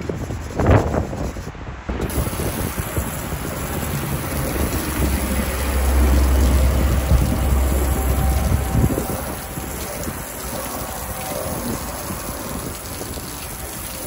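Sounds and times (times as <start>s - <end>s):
stiff brush scrubbing a sign: 0.0s - 14.0s
water spray hitting a sign: 1.9s - 14.0s.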